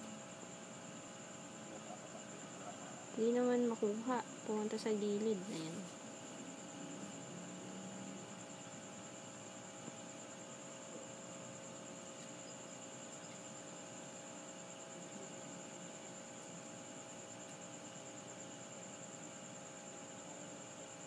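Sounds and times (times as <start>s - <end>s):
electrical hum: 0.0s - 21.0s
faint hiss: 0.0s - 21.0s.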